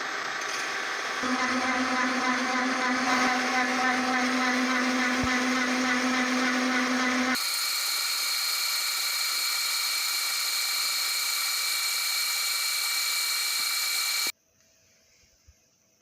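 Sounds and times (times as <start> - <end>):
milling machine whine: 0.0 - 14.3.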